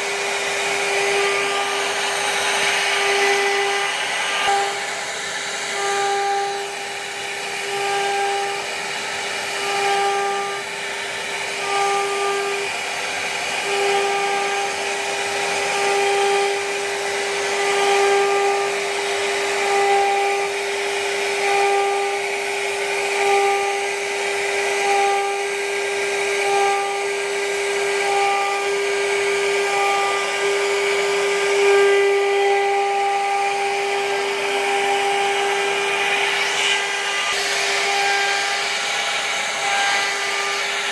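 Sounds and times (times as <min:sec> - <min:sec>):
router bit cutting wood hiss: 0:00.0 - 0:40.9
router spindle whine: 0:00.0 - 0:40.9.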